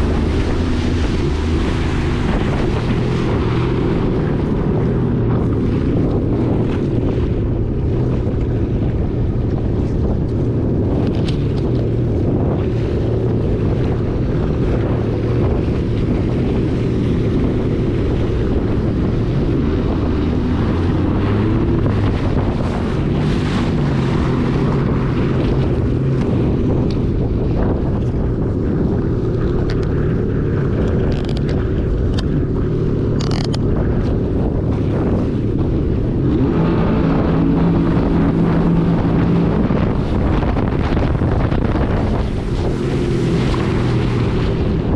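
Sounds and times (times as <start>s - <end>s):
personal watercraft engine running: 0.0s - 44.9s
wind buffeting microphone: 0.0s - 44.9s.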